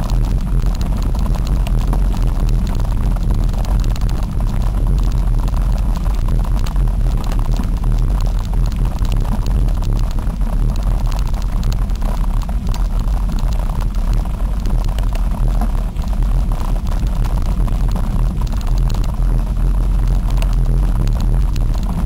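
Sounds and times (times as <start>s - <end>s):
bike rattling on dirt road: 0.0s - 22.0s.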